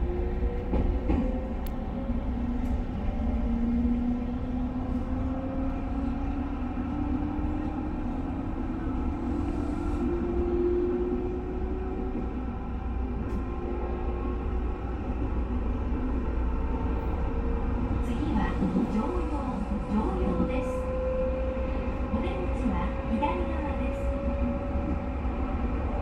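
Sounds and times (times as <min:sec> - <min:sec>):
electric train rumbling on rails: 0:00.0 - 0:26.0.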